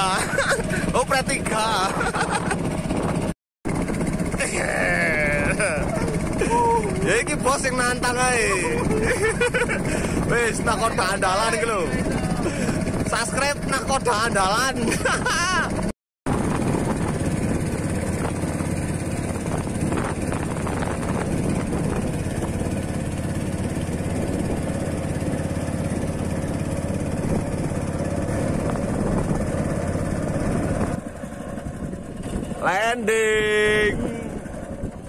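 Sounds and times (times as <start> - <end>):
motorboat engine running: 0.0 - 35.0.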